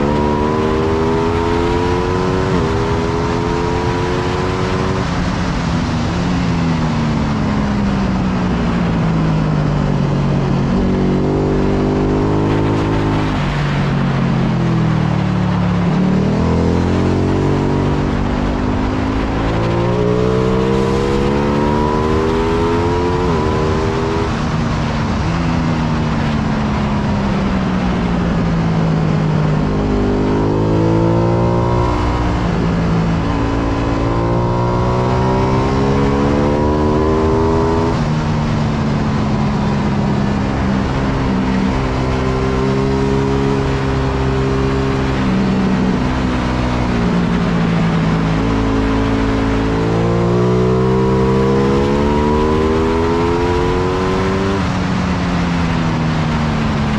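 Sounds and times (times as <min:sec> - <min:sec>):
motorcycle engine revving: 0:00.0 - 0:06.1, 0:08.9 - 0:14.6, 0:15.5 - 0:25.5, 0:27.8 - 0:56.9.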